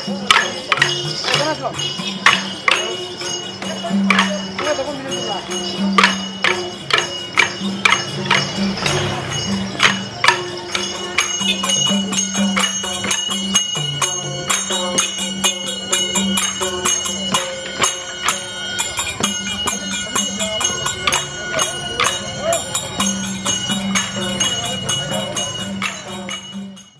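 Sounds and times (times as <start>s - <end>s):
small cymbals or bells ringing: 0.0s - 26.9s.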